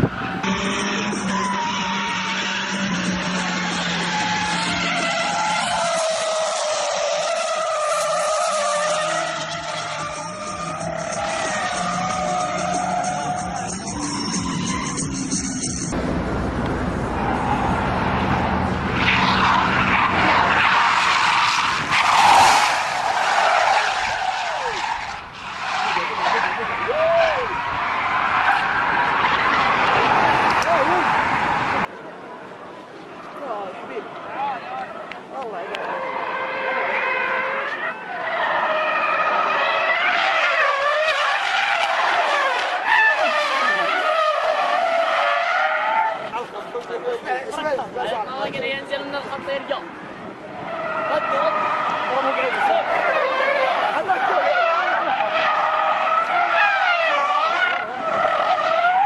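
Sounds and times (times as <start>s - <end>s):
car tyres skidding: 0.0s - 31.9s, 34.0s - 59.0s.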